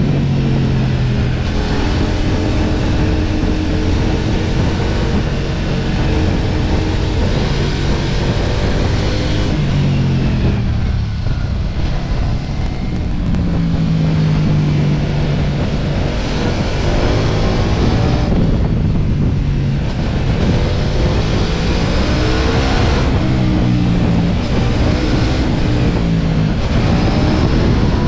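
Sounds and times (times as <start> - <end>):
motorcycle engine: 0.0 - 28.0
road noise: 0.0 - 28.0
wind rush on microphone: 0.0 - 28.0.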